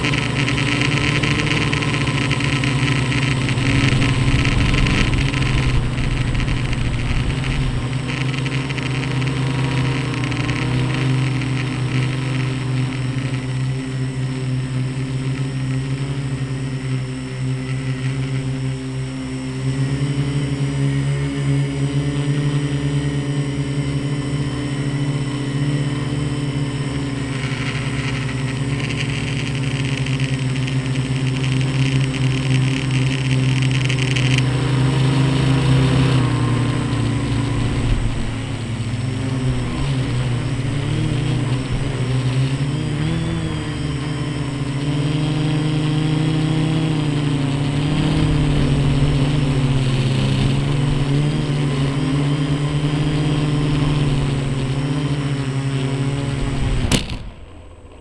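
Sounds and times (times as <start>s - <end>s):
high whine: 0.0s - 58.0s
quadcopter motors whirring: 0.0s - 58.0s.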